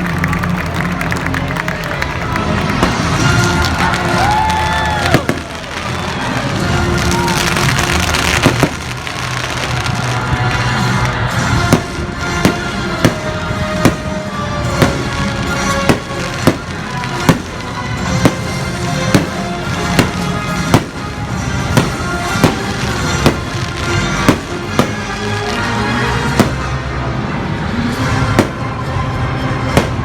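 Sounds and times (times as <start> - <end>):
loud music: 0.0 - 30.0
fireworks bursting with bangs: 2.3 - 27.1, 27.9 - 30.0.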